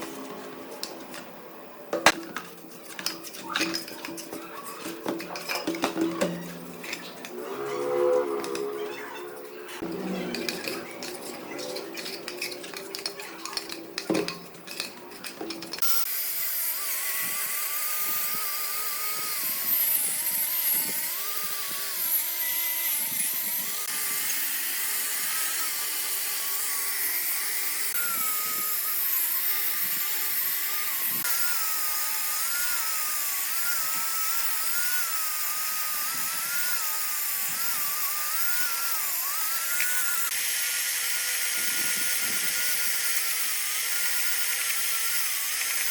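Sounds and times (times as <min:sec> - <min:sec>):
high-speed power tool whining: 0:02.2 - 0:45.9.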